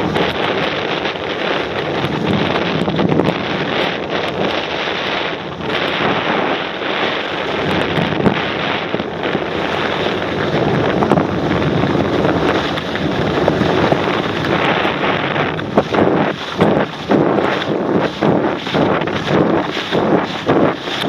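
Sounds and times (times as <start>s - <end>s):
wind rushing over microphone: 0.0s - 21.0s
skis scraping on icy snow: 0.1s - 21.0s.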